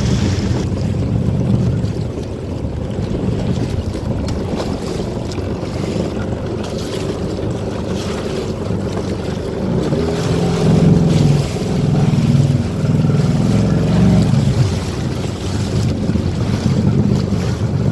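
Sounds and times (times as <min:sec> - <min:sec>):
water rushing and splashing: 0:00.0 - 0:17.9
wind buffeting microphone: 0:00.0 - 0:17.9.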